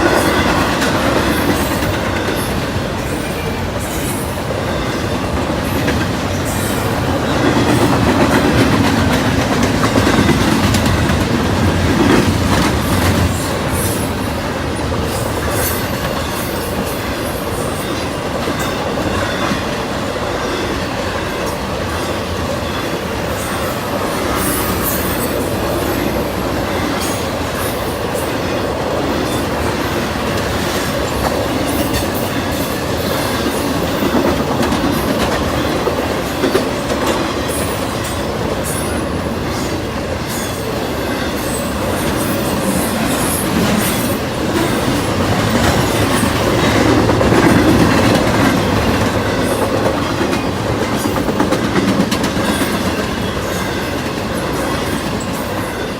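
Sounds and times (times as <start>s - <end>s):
clickety-clack of rail joints: 0.0s - 55.9s
freight train wheels rumbling: 0.0s - 55.9s.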